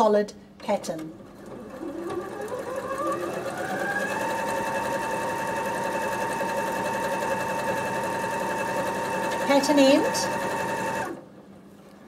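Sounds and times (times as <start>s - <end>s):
sewing machine stitching: 0.6s - 11.2s.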